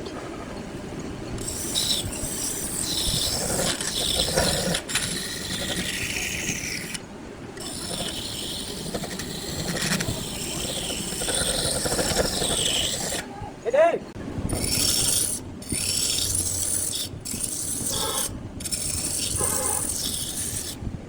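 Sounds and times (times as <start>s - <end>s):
wood lathe tool scraping and squealing: 1.4s - 7.0s, 7.6s - 13.2s, 14.5s - 20.8s.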